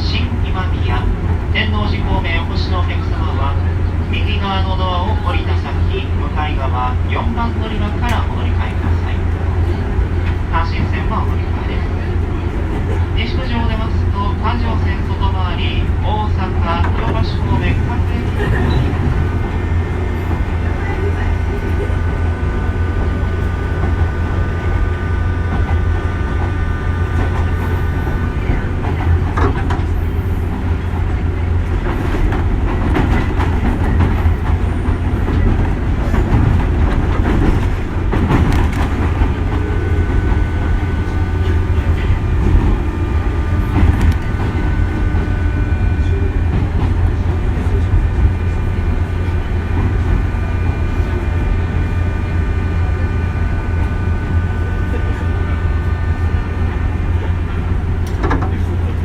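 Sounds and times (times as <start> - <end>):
train running rumble: 0.0 - 59.0
thin steady whine: 5.2 - 32.4, 33.0 - 59.0.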